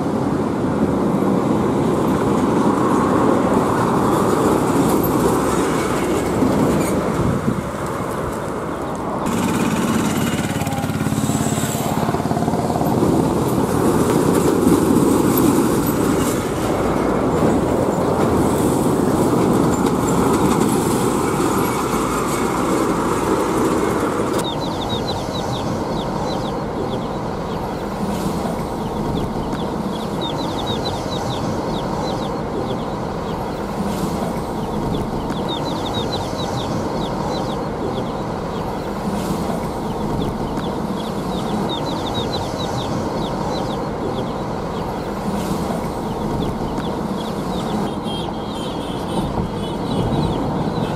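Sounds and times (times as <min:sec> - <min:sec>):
lorries passing on highway: 0:00.0 - 0:50.9.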